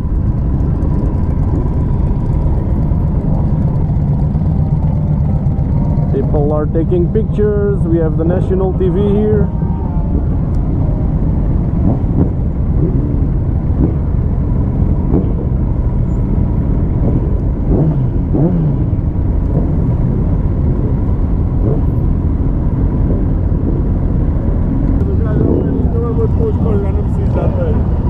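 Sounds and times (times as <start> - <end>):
motorcycle engines rumbling: 0.0 - 28.0.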